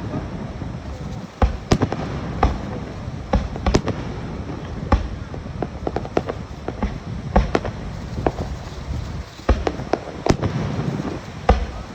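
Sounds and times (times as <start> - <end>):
fireworks bangs: 0.0 - 11.9
rumble of fireworks: 0.0 - 11.9.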